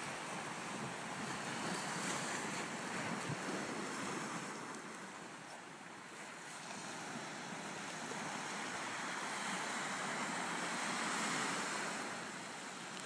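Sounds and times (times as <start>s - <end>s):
surf washing onto rocky shore: 0.0s - 13.0s
wind: 0.0s - 13.0s.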